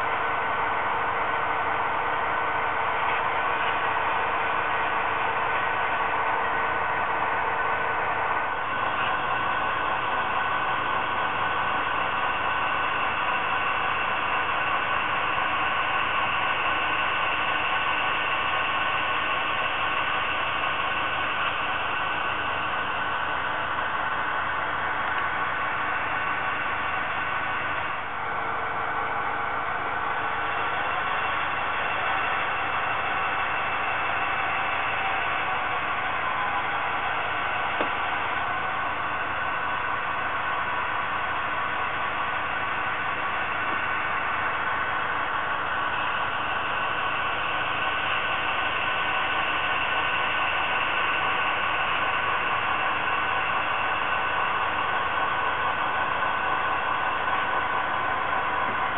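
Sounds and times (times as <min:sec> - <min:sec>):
model locomotives whirring: 0:00.0 - 0:58.9.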